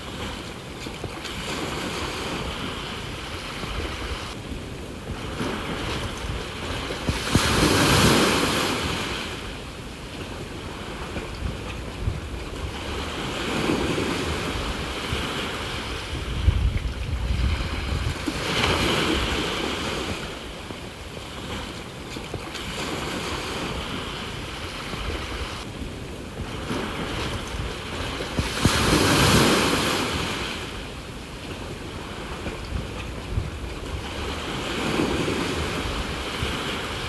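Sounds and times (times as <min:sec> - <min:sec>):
sea waves breaking on shore: 0:00.0 - 0:37.0
wind buffeting microphone: 0:00.0 - 0:37.0.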